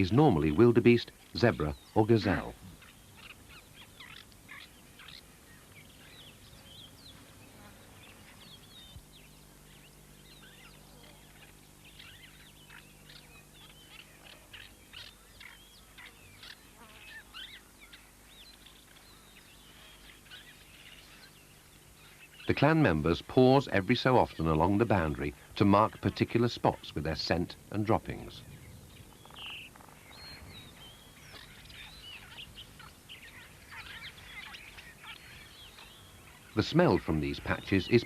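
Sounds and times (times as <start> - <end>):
birds chirping and twittering: 0.0 - 38.0
low steady hum: 0.0 - 38.0.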